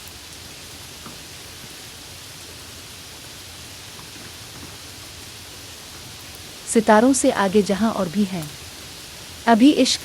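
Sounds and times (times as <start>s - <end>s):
raindrop ticks: 0.0s - 1.9s, 3.7s - 9.9s
rain hissing: 0.0s - 10.0s.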